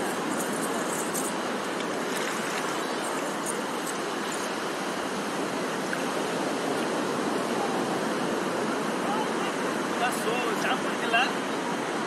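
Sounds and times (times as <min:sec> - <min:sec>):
sea surf washing up beach: 0:00.0 - 0:12.0.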